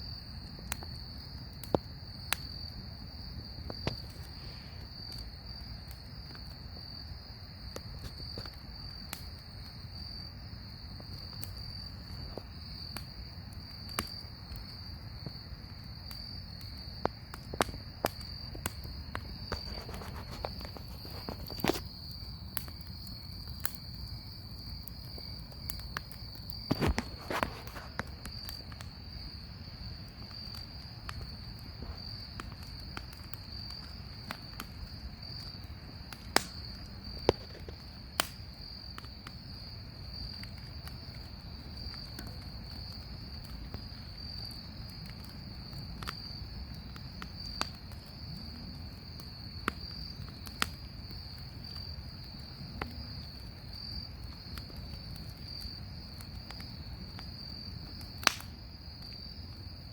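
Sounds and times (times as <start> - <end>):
bonfire crackling and popping: 0.0 - 59.9
insects trilling: 0.0 - 59.9.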